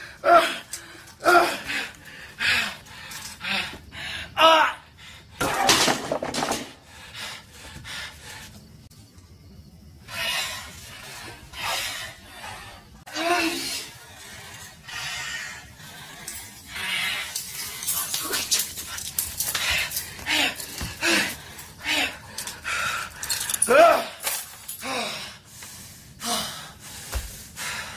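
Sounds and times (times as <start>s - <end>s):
man breathing hard: 0.0s - 5.4s, 6.8s - 8.9s, 10.0s - 27.9s.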